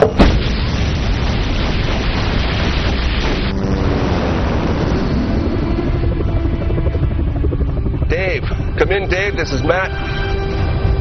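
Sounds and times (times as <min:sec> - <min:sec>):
volcanic eruption rushing: 0:00.0 - 0:11.0.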